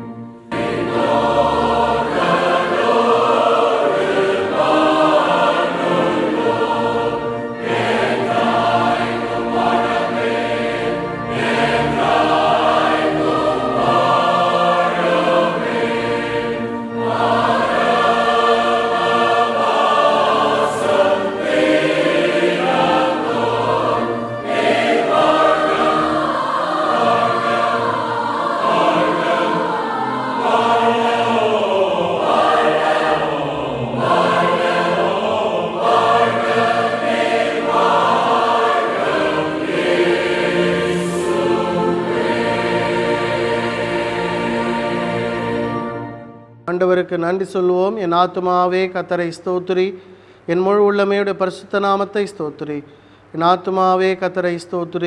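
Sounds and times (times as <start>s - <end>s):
group singing a hymn: 0.0s - 46.6s.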